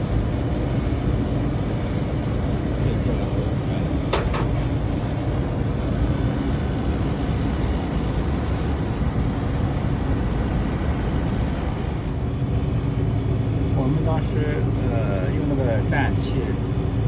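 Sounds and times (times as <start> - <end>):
hvac equipment drone: 0.0 - 17.0.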